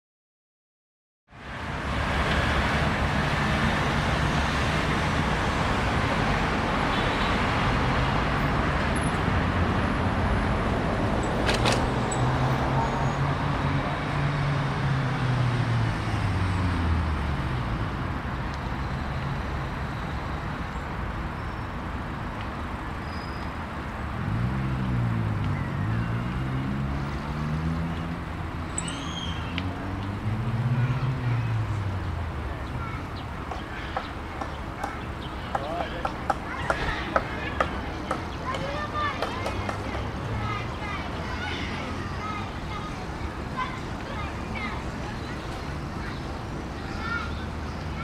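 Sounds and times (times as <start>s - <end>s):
passing vehicle engines: 1.3s - 48.0s
road traffic noise: 1.3s - 48.0s.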